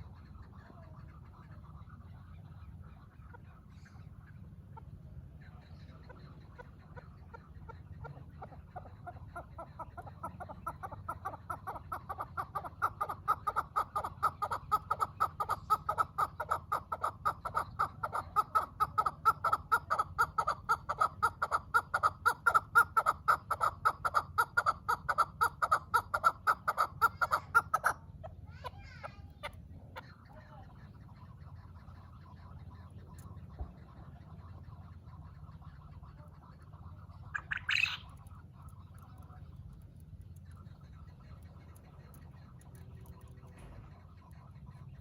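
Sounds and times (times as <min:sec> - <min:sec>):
partridge clucking calls: 0:00.0 - 0:45.0.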